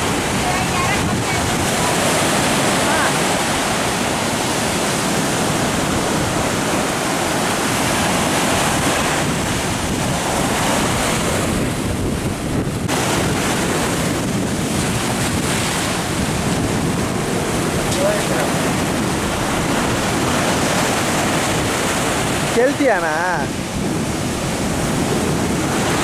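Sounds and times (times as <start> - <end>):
surf breaking on sand and rocks: 0.0 - 26.0
wind buffeting microphone: 0.0 - 26.0.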